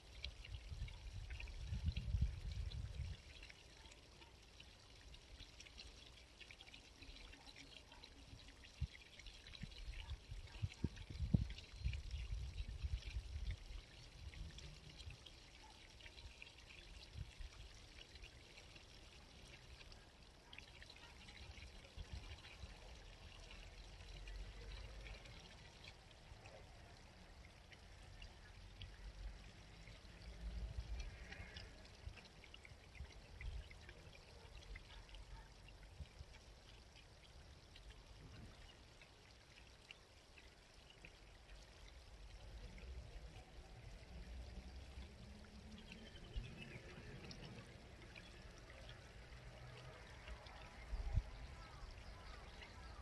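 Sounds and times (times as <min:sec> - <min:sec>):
stream babbling: 0:00.0 - 0:53.0.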